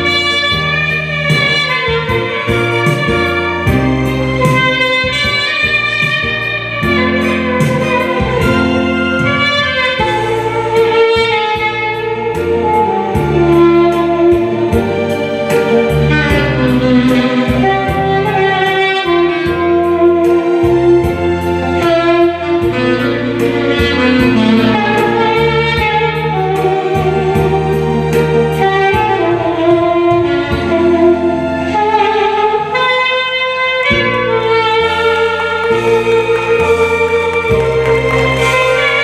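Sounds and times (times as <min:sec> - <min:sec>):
backing track with bass line: 0:00.0 - 0:39.0
saxophone melody: 0:00.0 - 0:39.0.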